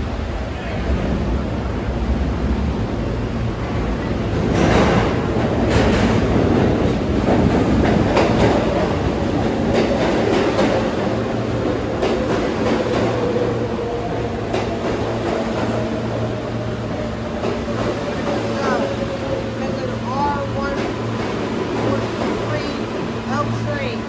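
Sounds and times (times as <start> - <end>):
subway train wheels clacking: 0.0 - 24.0.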